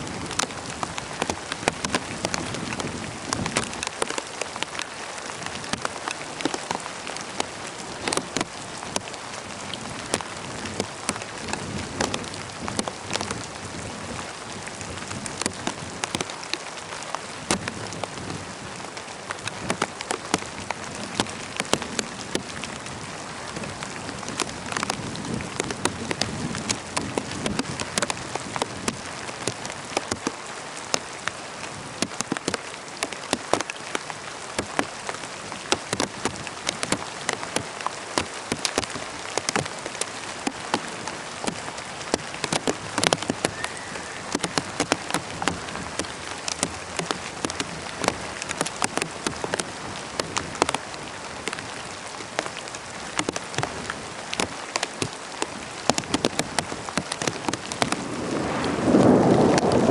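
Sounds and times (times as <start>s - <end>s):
raindrops pattering on hard surface: 0.0s - 59.9s
steady rain falling: 0.0s - 59.9s.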